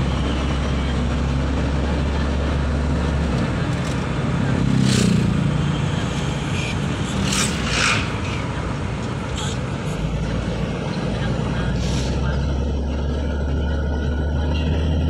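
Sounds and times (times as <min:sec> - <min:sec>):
engine drone inside vehicle: 0:00.0 - 0:15.0
road noise: 0:00.0 - 0:15.0.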